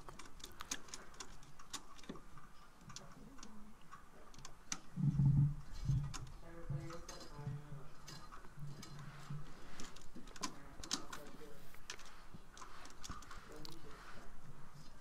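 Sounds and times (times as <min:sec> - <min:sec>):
faint broken low hum: 0:00.0 - 0:15.0.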